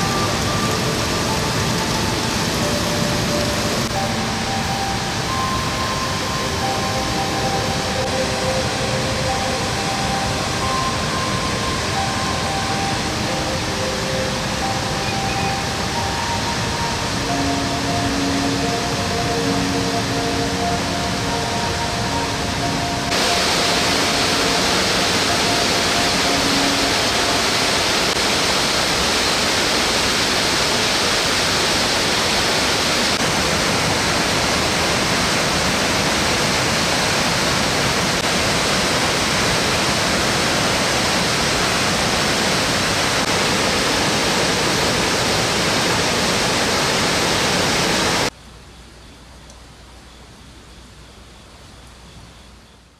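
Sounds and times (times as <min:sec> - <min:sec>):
waterfall rushing: 0:00.0 - 0:48.4.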